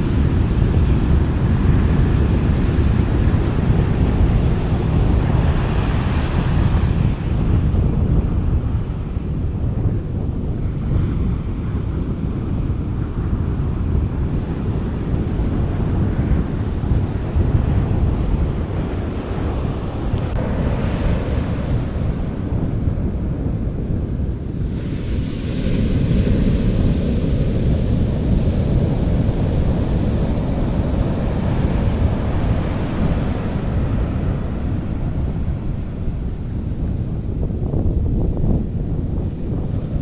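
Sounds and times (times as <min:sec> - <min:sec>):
sea waves washing onto beach: 0:00.0 - 0:09.2, 0:10.7 - 0:37.5
wind on microphone: 0:00.0 - 0:40.0.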